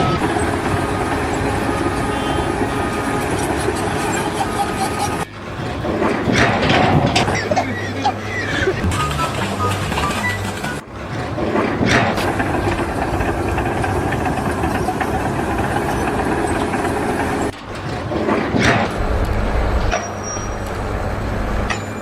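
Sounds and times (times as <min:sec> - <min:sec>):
heavy engine rumbling: 0:00.0 - 0:22.0.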